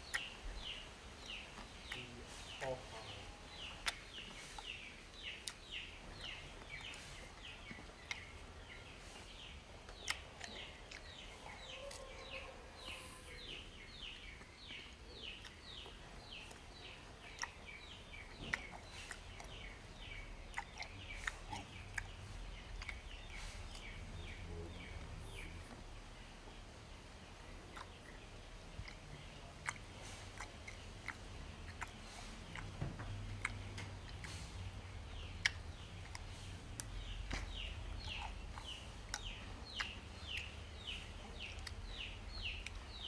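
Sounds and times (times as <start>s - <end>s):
person chewing crunchy fruit: 0.0s - 25.8s, 27.4s - 43.0s
bird chirping: 0.0s - 43.0s.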